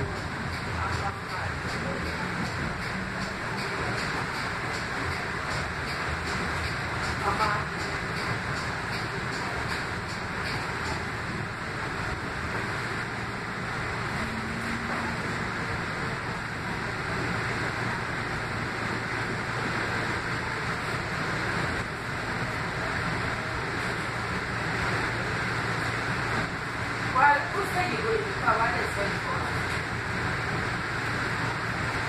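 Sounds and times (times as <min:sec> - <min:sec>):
light rail vehicle running rumble: 0:00.0 - 0:32.0.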